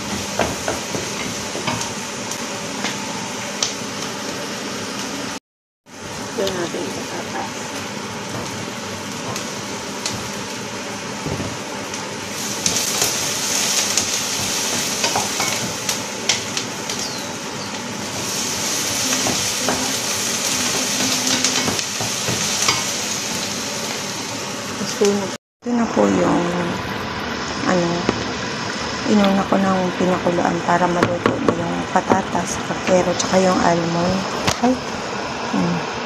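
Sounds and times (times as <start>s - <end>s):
cooking hiss: 0.0s - 36.0s.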